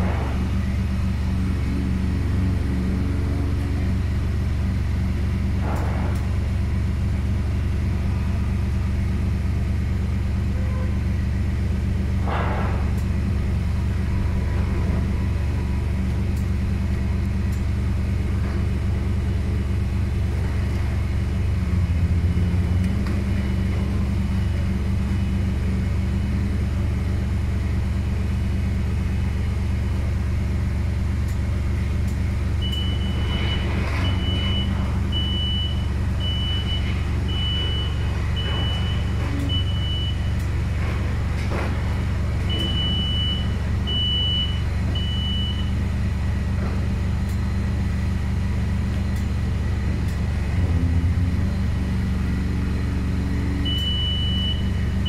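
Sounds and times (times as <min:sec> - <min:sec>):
boom lift low hum: 0:00.0 - 0:55.0.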